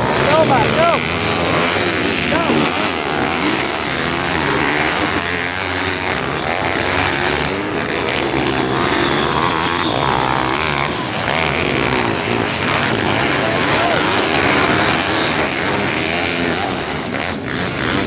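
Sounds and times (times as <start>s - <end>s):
small motorbike engines revving: 0.0s - 18.0s.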